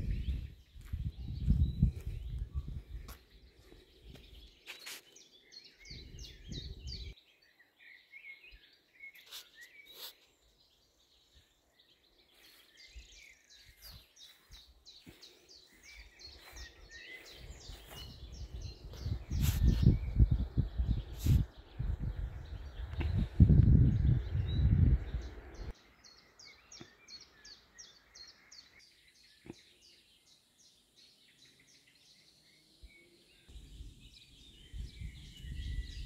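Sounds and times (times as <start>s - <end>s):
songbirds chirping: 0.0s - 36.0s.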